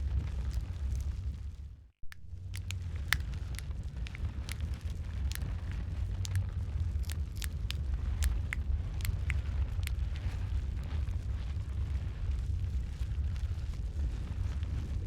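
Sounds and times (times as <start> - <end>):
low rumble of burning logs: 0.0 - 15.0
wood fire crackling: 0.0 - 15.0.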